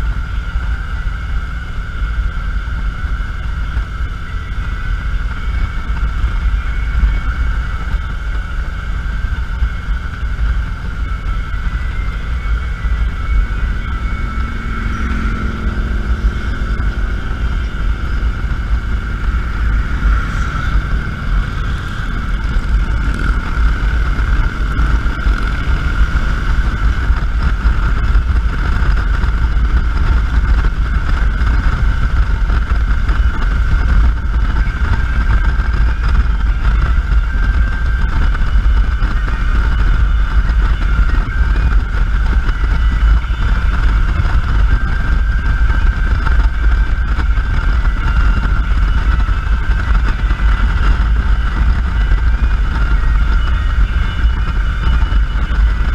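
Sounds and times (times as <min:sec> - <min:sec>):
motorcycle engine running: 0:00.0 - 0:55.9
steady high hum: 0:00.0 - 0:55.9
wind rumble on microphone: 0:00.0 - 0:55.9.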